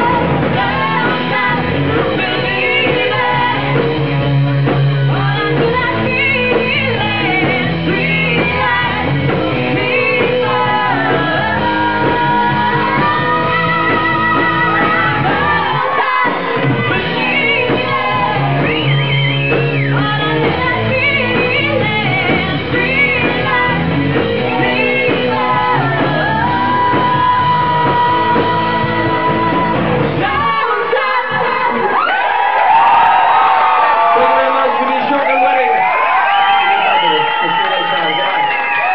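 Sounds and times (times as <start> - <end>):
woman singing: 0.0 - 32.0
rock band playing: 0.0 - 38.9.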